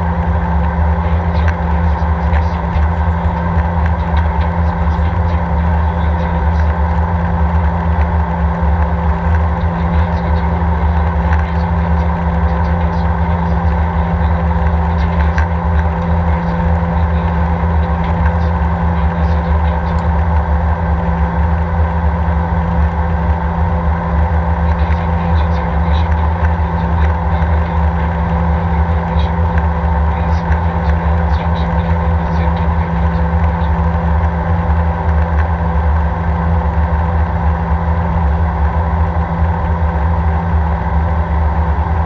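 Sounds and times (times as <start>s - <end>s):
jet engine drone in cabin: 0.0s - 42.0s
steady hums: 0.0s - 42.0s.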